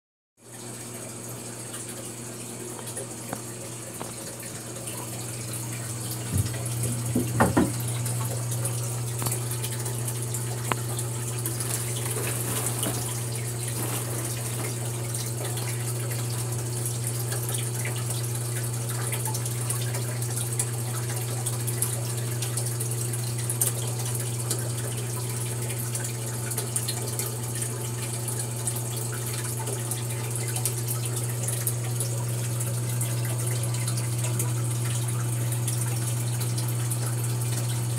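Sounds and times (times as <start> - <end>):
filter pump humming: 0.4 - 37.9
water splashing and trickling: 0.5 - 37.9.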